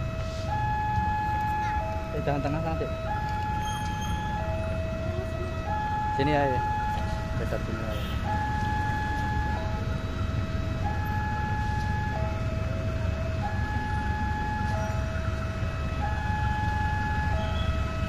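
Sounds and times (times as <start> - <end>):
continuous low rumble: 0.0 - 18.0
level crossing two-tone alarm: 0.0 - 18.0.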